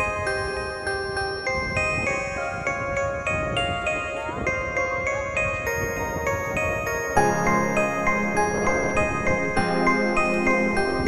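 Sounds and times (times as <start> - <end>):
bell-like melody: 0.0 - 11.0.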